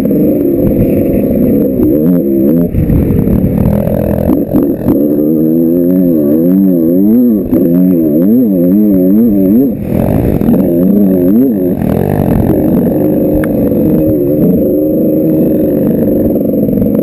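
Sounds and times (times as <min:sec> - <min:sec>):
dirt bike engine revving: 0:00.0 - 0:17.0
wind noise: 0:00.0 - 0:17.0.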